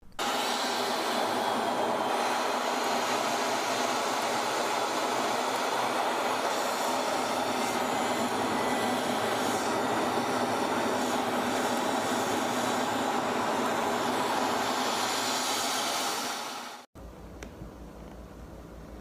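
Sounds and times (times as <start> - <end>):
jet engine and airflow rushing: 0.0 - 16.9.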